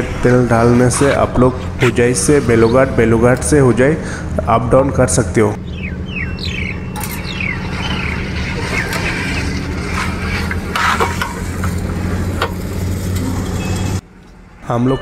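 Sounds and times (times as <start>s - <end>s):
birds chirping: 0.0s - 12.4s, 13.3s - 14.0s
low machine hum: 0.0s - 15.0s.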